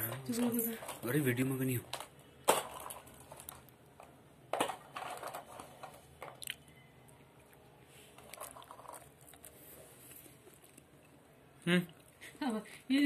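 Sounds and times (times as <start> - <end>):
rustling and crunching food: 0.0 - 11.2.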